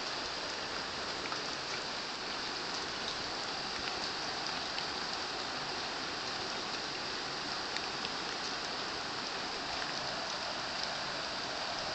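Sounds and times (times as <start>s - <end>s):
raindrop ticks: 0.0s - 11.0s
steady rain hiss: 0.0s - 11.9s.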